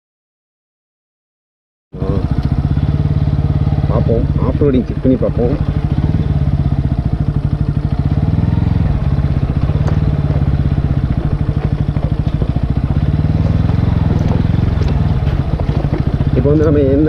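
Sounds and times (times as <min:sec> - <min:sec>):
motorcycle engine puttering: 0:02.0 - 0:17.0.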